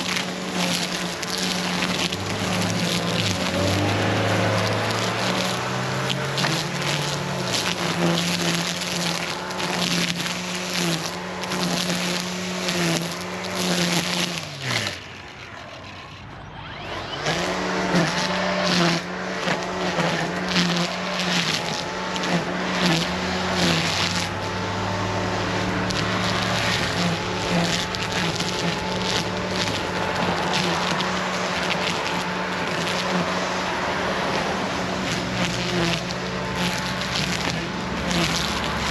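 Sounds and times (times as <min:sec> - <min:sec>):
electric chainsaw cutting wood: 0:00.0 - 0:38.9
wood crackling: 0:00.0 - 0:38.9.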